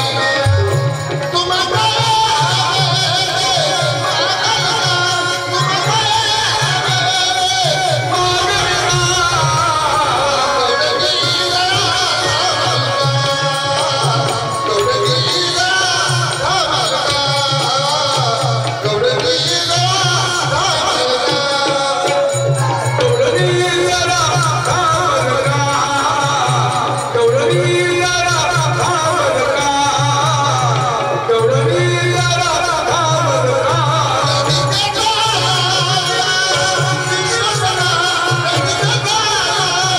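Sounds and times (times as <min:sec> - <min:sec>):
man singing: 0:00.0 - 0:39.9.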